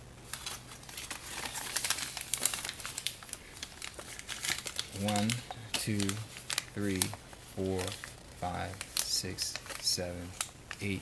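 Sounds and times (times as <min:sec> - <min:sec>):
foil packets crinkling: 0:00.2 - 0:11.0.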